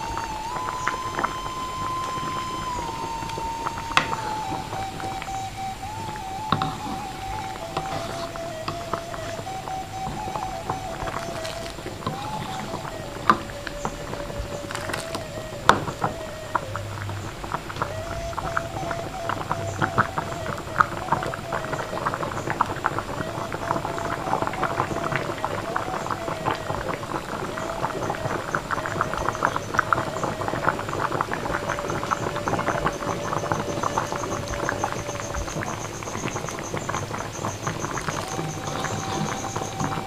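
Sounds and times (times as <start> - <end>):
pot boiling and bubbling: 0.0 - 40.0.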